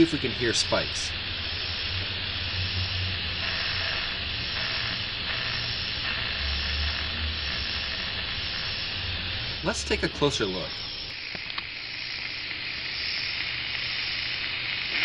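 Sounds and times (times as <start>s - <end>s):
low hum: 0.0s - 15.0s
static hiss: 0.0s - 15.0s.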